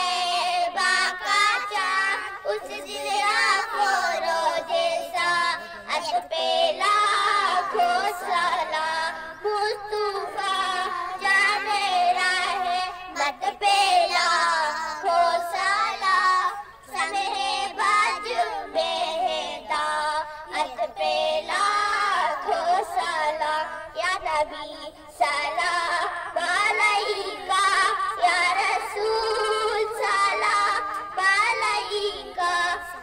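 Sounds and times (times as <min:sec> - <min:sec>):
girls singing unaccompanied: 0:00.0 - 0:33.0.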